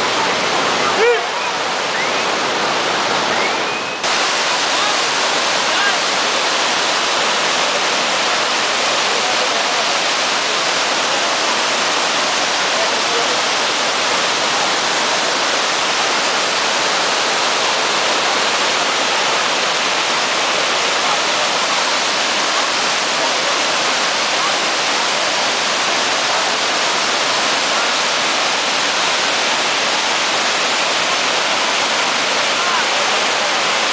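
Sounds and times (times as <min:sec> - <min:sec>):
floodwater rushing: 0:00.0 - 0:33.9.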